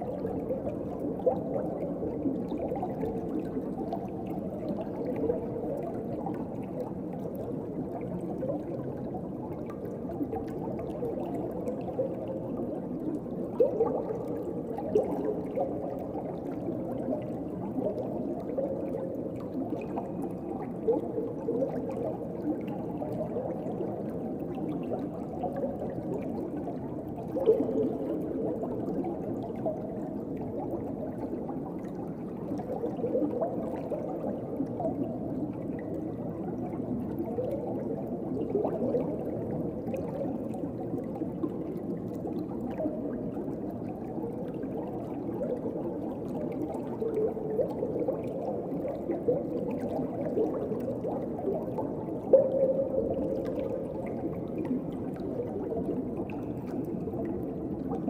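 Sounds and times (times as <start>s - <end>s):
gurgling bubbles: 0.0s - 58.0s
underwater wash of water: 0.0s - 58.0s.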